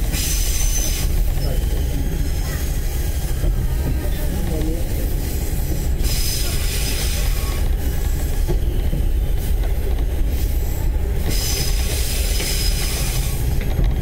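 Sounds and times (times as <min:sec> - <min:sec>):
train engine and wheels rumbling: 0:00.0 - 0:14.0.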